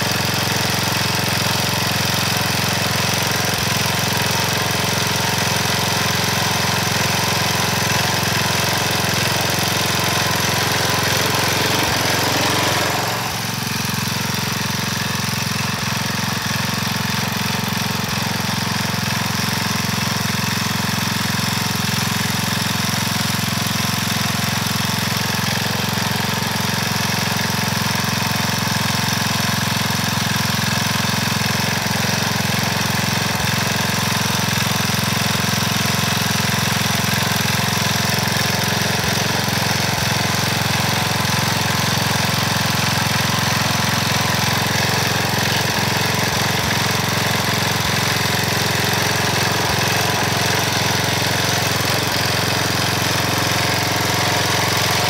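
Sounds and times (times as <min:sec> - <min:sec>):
garden tiller engine running: 0:00.0 - 0:55.0
tines churning soil: 0:00.0 - 0:55.0.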